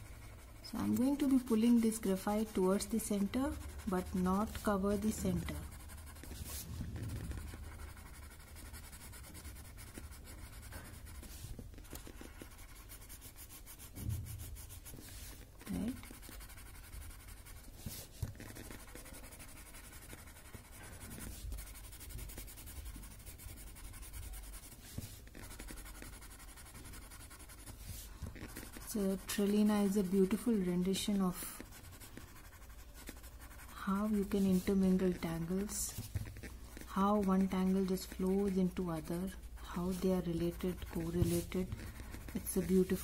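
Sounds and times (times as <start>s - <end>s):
scratchy rubbing on paper: 0.0s - 43.0s.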